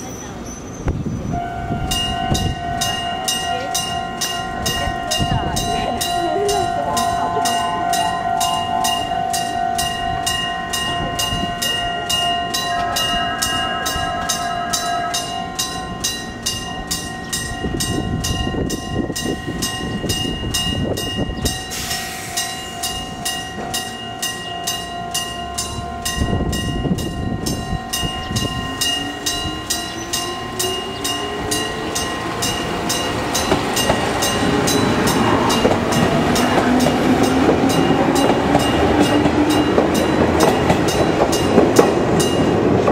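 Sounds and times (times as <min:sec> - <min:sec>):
train rumble: 0:00.0 - 0:42.9
level crossing warning bell ringing: 0:01.3 - 0:42.9.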